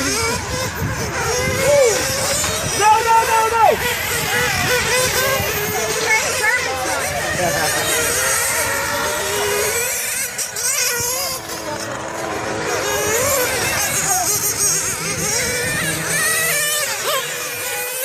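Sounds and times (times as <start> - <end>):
model car engines whining and revving: 0.0 - 18.0.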